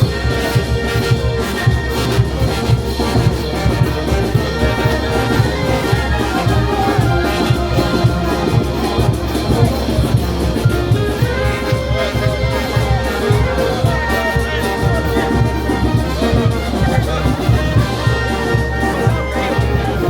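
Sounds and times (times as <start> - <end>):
brass band playing: 0.0 - 20.0
steady drum beat: 0.0 - 20.0.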